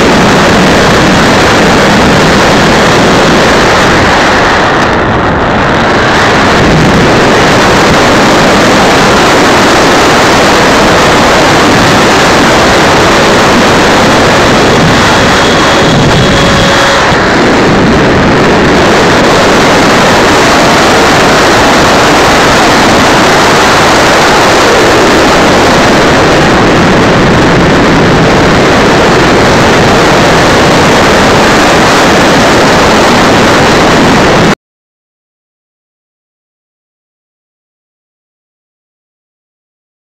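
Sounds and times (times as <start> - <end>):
electric ducted fans roaring: 0.0 - 34.6
faint steady whine: 0.0 - 34.6
wind buffeting microphone: 0.0 - 34.6.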